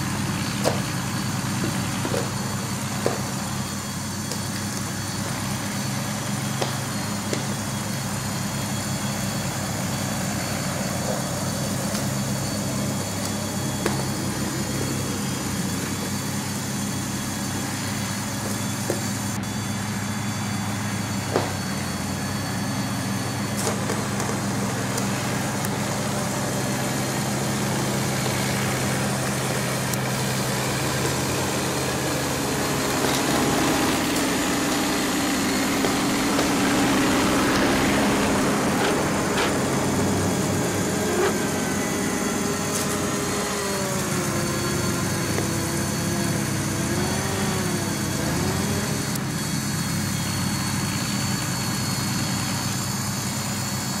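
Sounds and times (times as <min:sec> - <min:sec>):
electric motors whirring: 0:00.0 - 0:54.0
high motor whine: 0:00.0 - 0:54.0.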